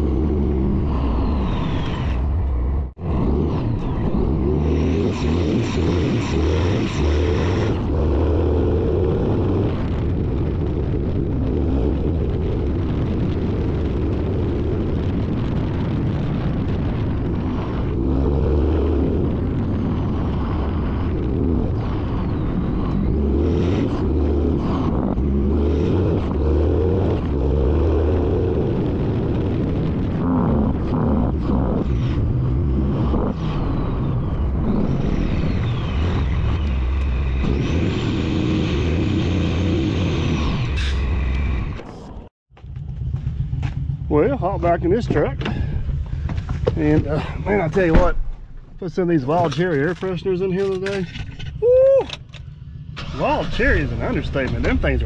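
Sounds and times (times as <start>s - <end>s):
tyre and road rumble: 0.0s - 55.0s
wind rushing over camera: 0.0s - 55.0s.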